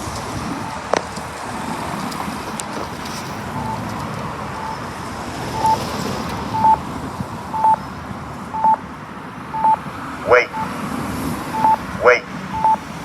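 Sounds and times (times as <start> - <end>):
crosswalk locator beep: 0.0 - 13.0
traffic noise: 0.0 - 13.0.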